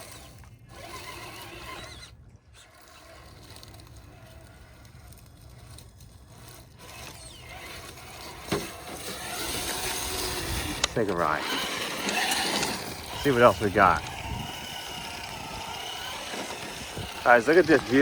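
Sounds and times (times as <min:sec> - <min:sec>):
electric motor whirring: 0:00.0 - 0:18.0
low steady rumble: 0:00.0 - 0:18.0
tyres scraping over ground: 0:00.0 - 0:18.0.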